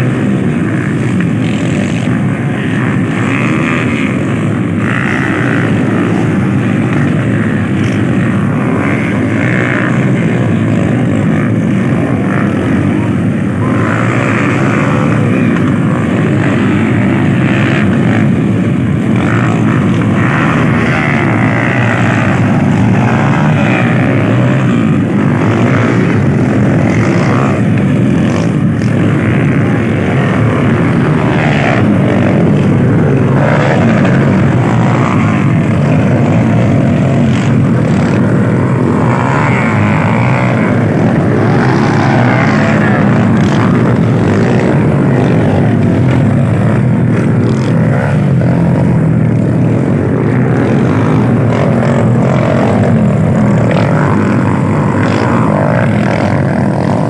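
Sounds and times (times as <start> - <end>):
motocross bike engines running: 0.0 - 57.0.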